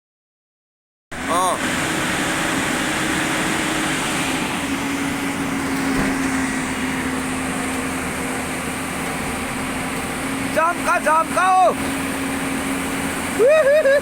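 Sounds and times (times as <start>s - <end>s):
diesel engine droning: 1.1s - 14.0s.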